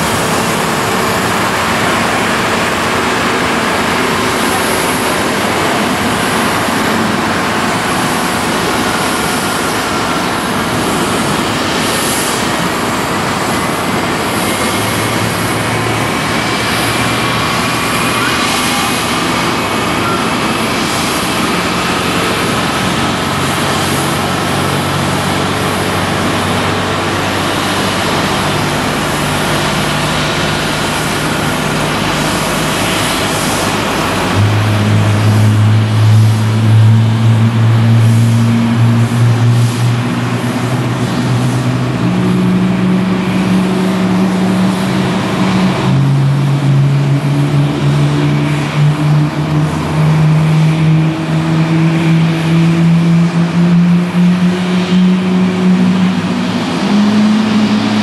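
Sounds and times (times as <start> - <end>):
jet engine rush with whines: 0.0 - 58.0
low hum: 0.0 - 58.0.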